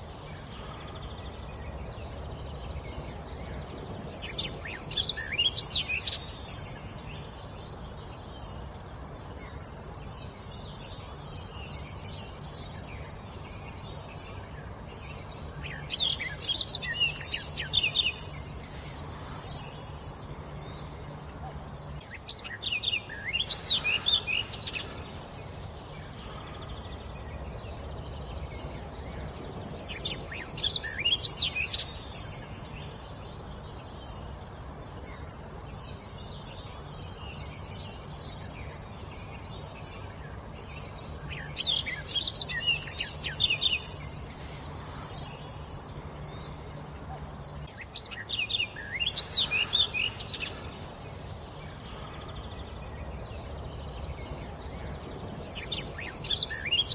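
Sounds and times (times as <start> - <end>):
faint low hum: 0.0 - 56.9
songbird singing: 0.0 - 56.9.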